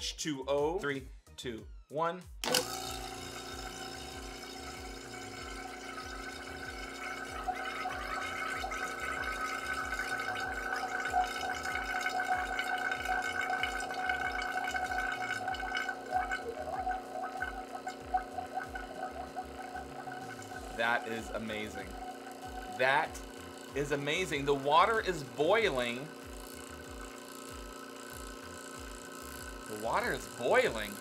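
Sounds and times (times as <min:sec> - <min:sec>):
vacuum pump running: 0:02.4 - 0:31.0.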